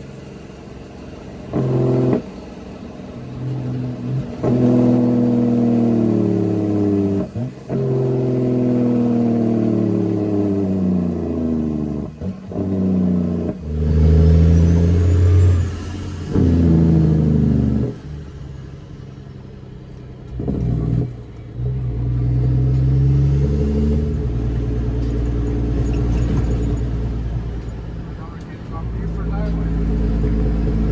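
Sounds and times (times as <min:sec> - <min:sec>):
loud diesel truck engine: 0:00.0 - 0:30.9.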